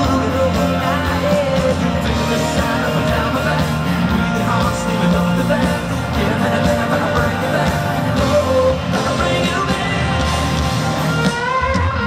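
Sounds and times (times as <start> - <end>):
live rock band: 0.0 - 12.0
man singing lead vocal: 0.0 - 12.0.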